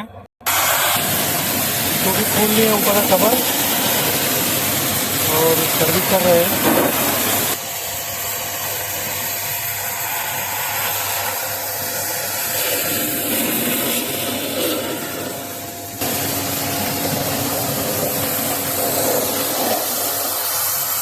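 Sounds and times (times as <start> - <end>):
water jet spraying hiss: 0.5 - 21.0.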